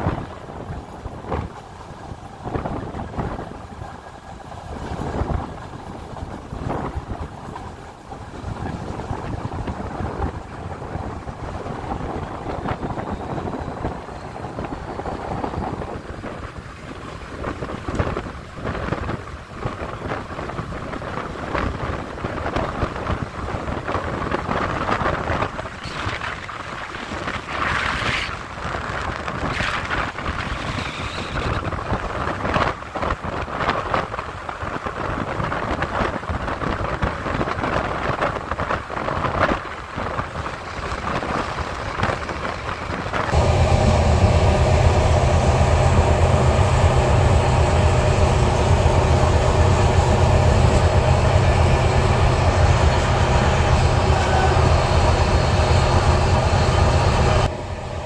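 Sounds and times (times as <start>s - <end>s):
wheels clattering on rails: 0.0s - 57.6s
train rumble: 0.0s - 58.0s
wind buffeting microphone: 0.0s - 58.0s.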